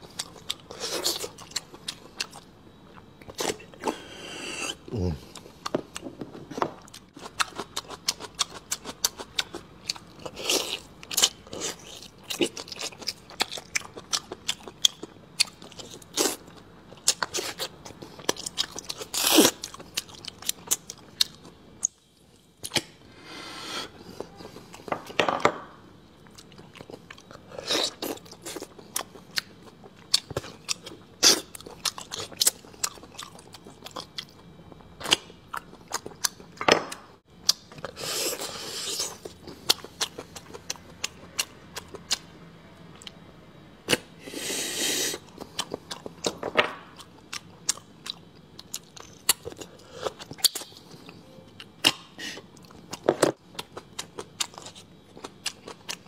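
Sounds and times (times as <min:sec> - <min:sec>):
chewing and crunching: 0:00.0 - 0:04.1, 0:05.0 - 0:23.0, 0:26.1 - 0:42.3, 0:45.2 - 0:56.0.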